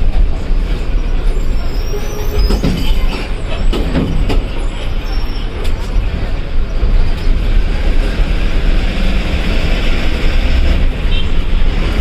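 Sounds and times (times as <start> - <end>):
bus engine rumbling: 0.0 - 12.0
road noise: 0.0 - 12.0.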